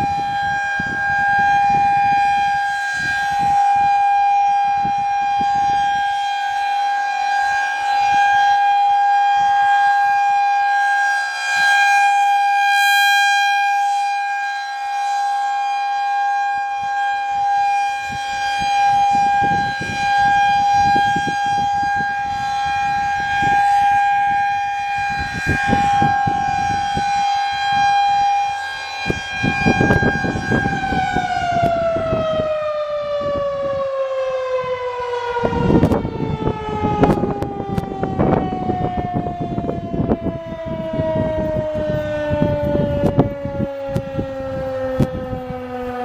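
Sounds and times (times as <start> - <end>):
rotating warning siren: 0.0 - 46.0.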